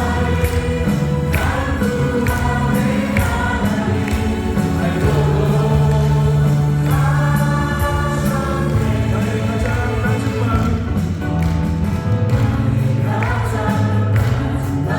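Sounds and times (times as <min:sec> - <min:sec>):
keyboard chords: 0:00.0 - 0:14.9
worship band singing: 0:00.0 - 0:14.9.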